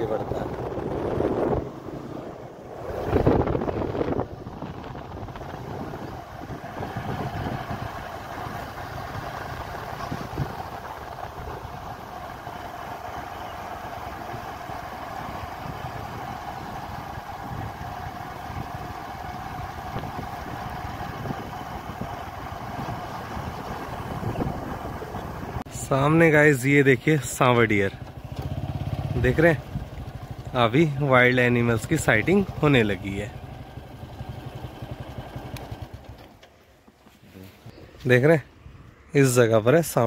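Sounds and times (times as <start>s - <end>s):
vehicle engine and road noise: 0.0s - 40.0s.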